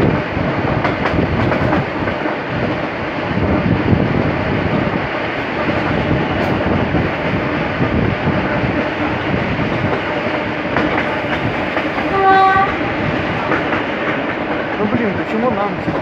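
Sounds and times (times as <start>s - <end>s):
train wheels on track: 0.0s - 16.0s.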